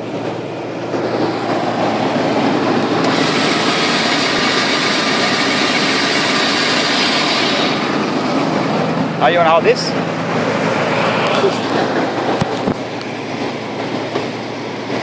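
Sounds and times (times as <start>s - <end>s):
electric winch whirring: 0.0s - 15.0s.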